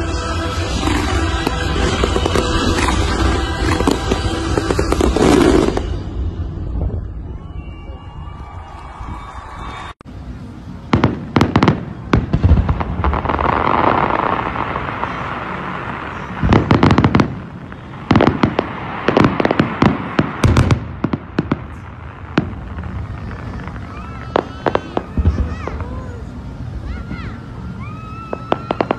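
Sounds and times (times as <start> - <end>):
crackling hiss of fireworks: 0.0 - 28.9.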